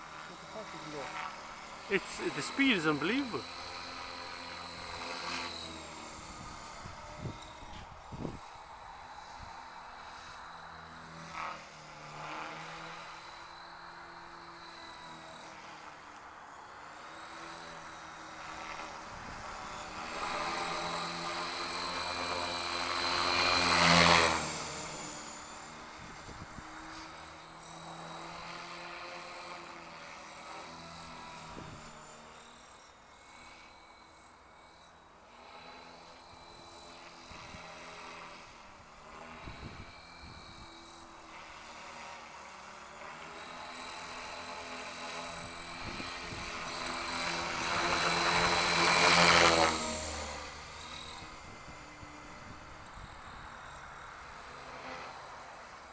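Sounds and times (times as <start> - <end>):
rc helicopter rotor whine: 0.0 - 55.9.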